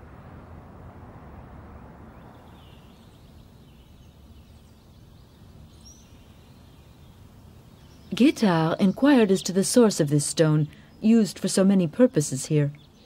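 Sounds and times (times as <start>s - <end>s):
low steady rumble: 0.0s - 13.0s
small birds chirping: 2.1s - 13.0s.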